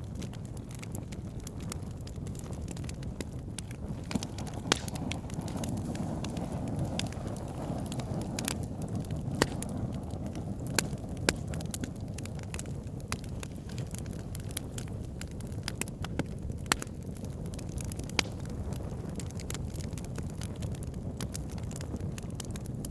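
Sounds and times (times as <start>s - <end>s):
campfire flames rumbling: 0.0s - 22.9s
fire crackling and popping: 0.0s - 22.9s.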